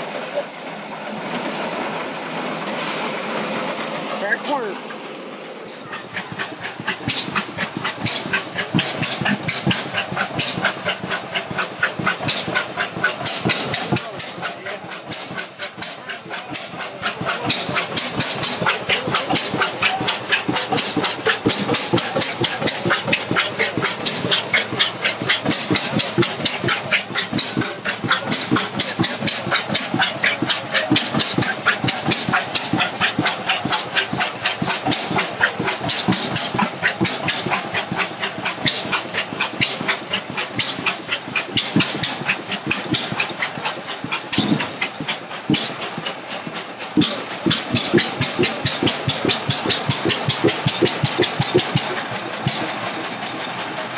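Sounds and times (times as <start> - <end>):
stationary engine clattering: 0.0 - 53.9.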